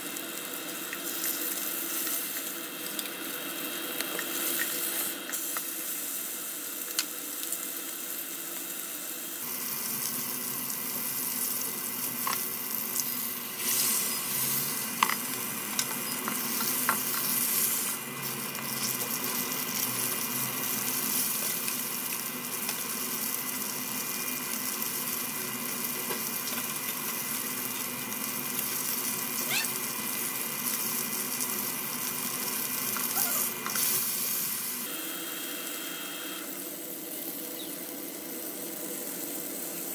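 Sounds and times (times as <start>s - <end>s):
meat sizzling in skillet: 0.0s - 39.9s.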